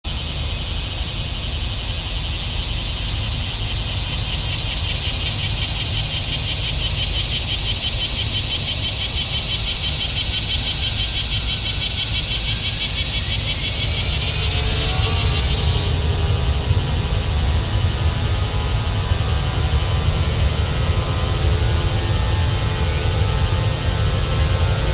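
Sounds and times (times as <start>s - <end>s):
jet engines rumbling: 0.1s - 20.5s
high pulsing buzz: 0.1s - 24.9s.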